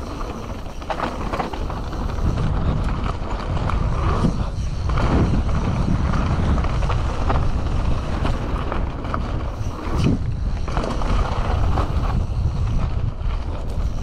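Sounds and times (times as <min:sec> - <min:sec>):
tyre rumble on dirt trail: 0:00.0 - 0:14.0
wind buffeting microphone: 0:00.0 - 0:14.0.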